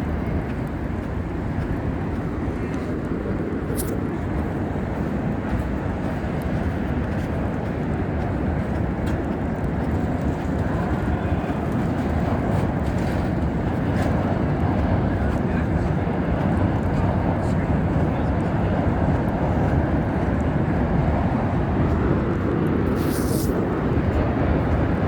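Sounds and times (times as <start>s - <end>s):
low rumble of city ambience: 0.0s - 25.0s.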